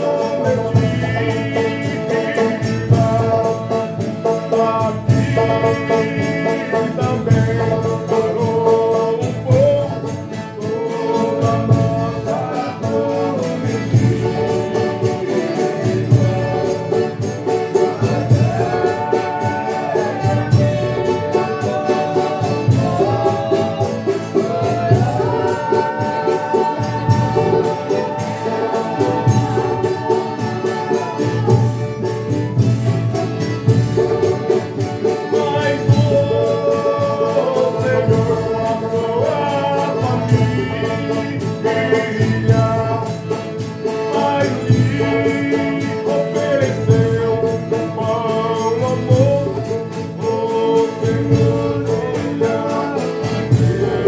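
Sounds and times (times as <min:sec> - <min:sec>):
accompanying instruments: 0:00.0 - 0:54.0
group singing: 0:00.0 - 0:54.0.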